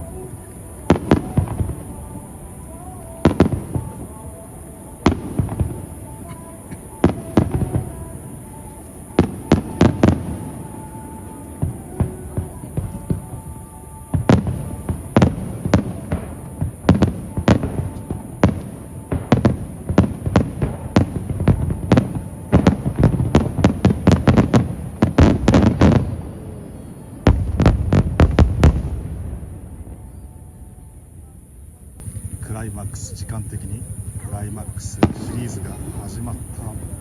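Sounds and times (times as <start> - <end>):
fireworks bursting: 0.0 - 31.1, 32.0 - 37.0.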